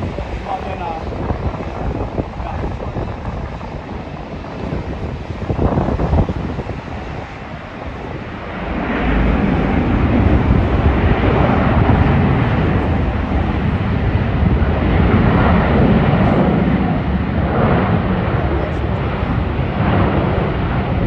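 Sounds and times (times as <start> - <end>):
jet airliner engines passing: 0.0 - 21.0.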